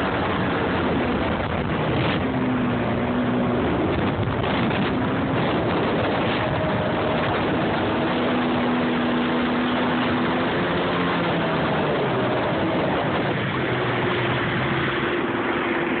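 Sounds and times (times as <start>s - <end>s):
jet ski engine: 0.0s - 16.0s
water and wind noise: 0.0s - 16.0s.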